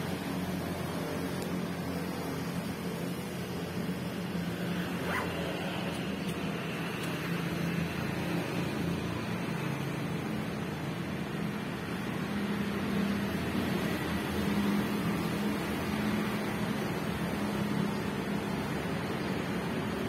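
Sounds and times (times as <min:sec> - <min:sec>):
road and tyre noise: 0:00.0 - 0:20.0
traffic engine hum: 0:00.0 - 0:20.0.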